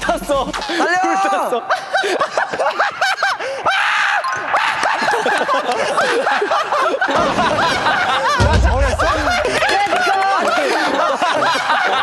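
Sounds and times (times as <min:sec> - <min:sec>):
young men laughing: 0:00.0 - 0:12.0.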